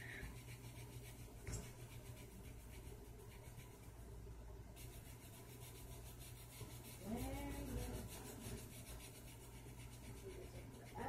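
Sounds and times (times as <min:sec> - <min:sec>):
pencil scratching on paper: 0:00.1 - 0:04.0, 0:04.8 - 0:11.0.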